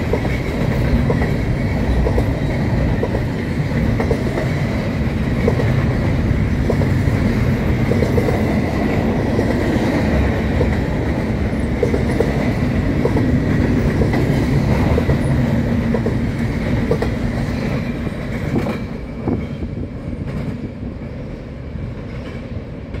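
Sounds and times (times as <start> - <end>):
train wheels rumbling and clicking: 0.0 - 23.0.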